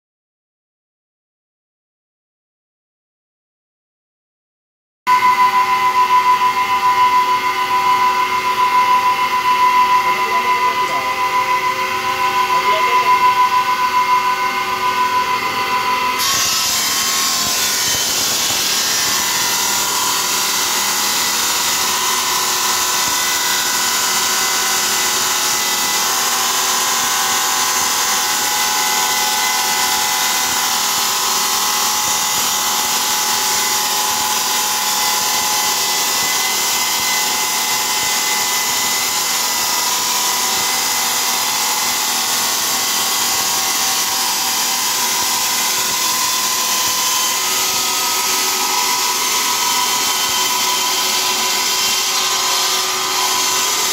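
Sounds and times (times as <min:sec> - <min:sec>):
circular saw cutting tile: 0:05.1 - 0:53.9.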